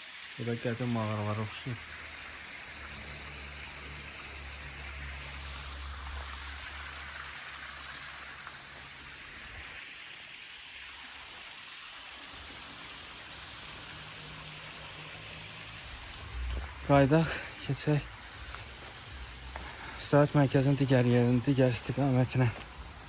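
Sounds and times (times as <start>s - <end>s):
waterfall splashing: 0.0s - 23.0s.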